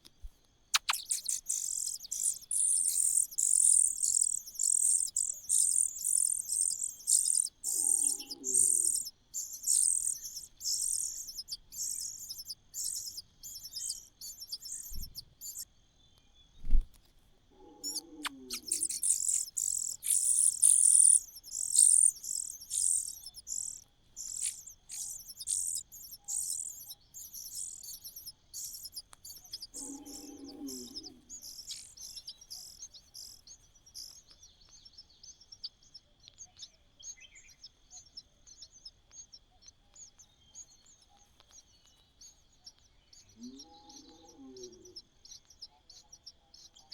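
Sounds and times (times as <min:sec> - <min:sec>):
nestling birds chirping: 0:00.7 - 0:15.7, 0:17.6 - 0:46.9.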